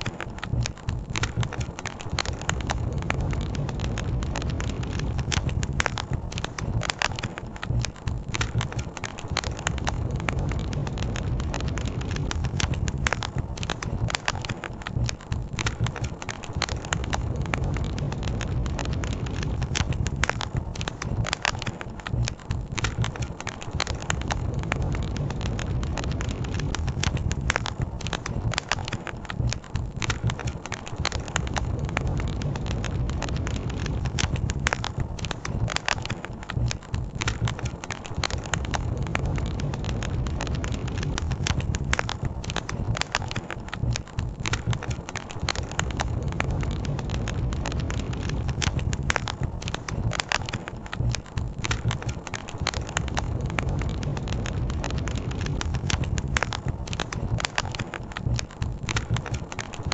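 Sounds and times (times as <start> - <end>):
campfire crackling and popping: 0.0 - 59.9
low rumble of fire: 0.0 - 59.9.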